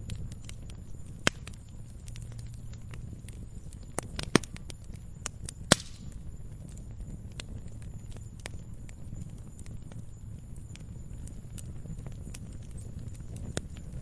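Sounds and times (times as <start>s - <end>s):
campfire crackling and popping: 0.0s - 14.0s
low steady rumble: 0.0s - 14.0s.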